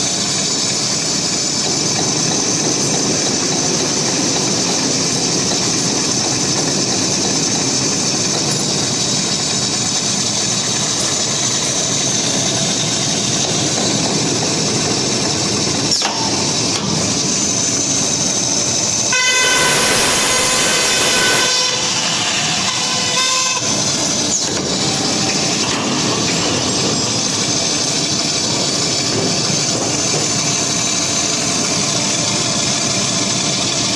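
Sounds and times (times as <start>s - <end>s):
roll forming machine din: 0.0s - 33.9s.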